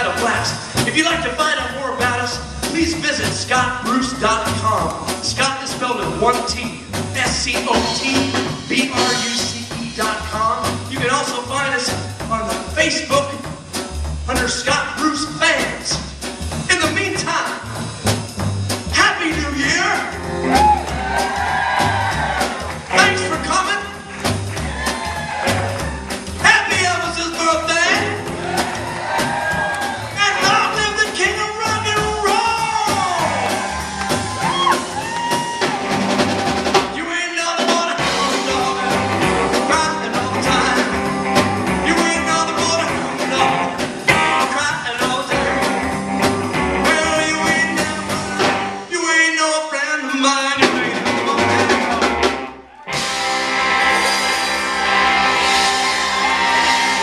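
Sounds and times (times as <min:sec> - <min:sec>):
live rockabilly band playing: 0:00.0 - 0:57.0.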